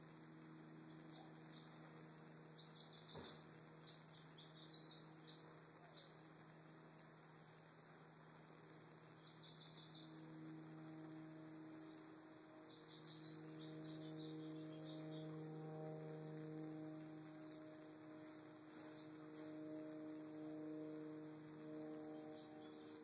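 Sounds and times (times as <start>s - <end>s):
faint steady hum: 0.0s - 23.0s
faint high chirping: 0.8s - 6.4s, 9.0s - 23.0s.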